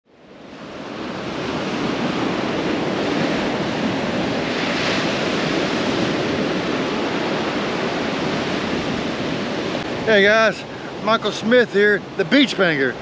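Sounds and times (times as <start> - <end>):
ocean surf breaking on beach: 0.1 - 13.0.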